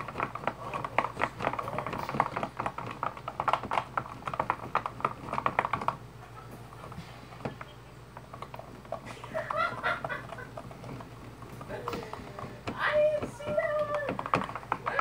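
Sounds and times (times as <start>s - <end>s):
utensil stirring slime in tub: 0.0s - 15.0s.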